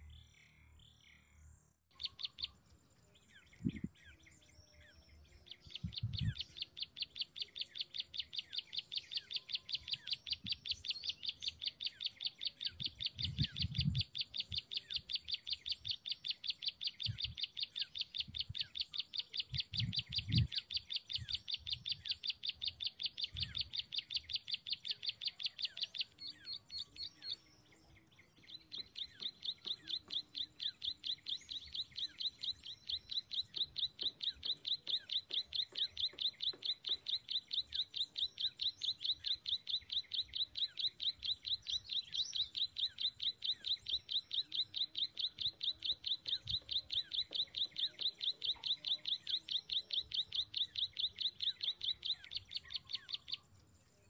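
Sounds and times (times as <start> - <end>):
bird sharp high chirps: 1.9 - 54.0.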